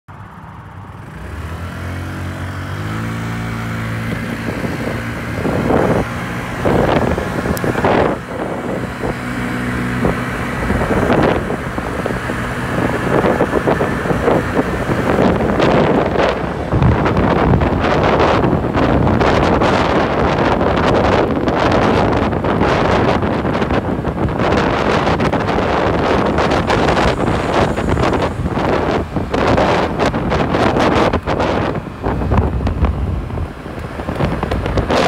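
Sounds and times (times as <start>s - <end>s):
scooter engine accelerating: 0.1s - 35.0s
wind rushing over microphone: 0.2s - 35.0s.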